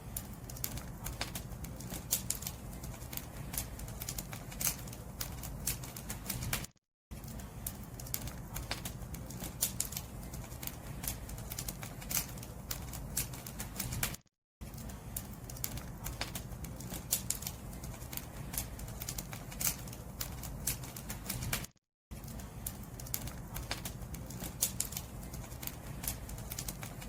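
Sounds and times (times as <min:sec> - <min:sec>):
firewood crackling and popping: 0:00.0 - 0:27.0
low rumble of flames: 0:00.0 - 0:27.0.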